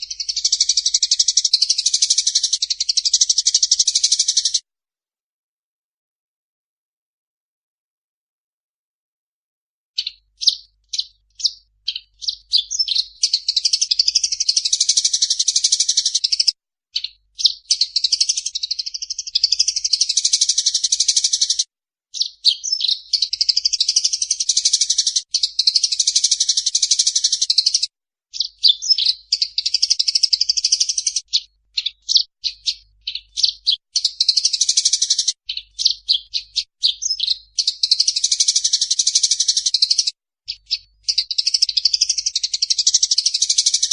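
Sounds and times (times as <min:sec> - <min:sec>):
sparrows chattering harshly: 0:00.0 - 0:04.6, 0:10.0 - 0:43.9.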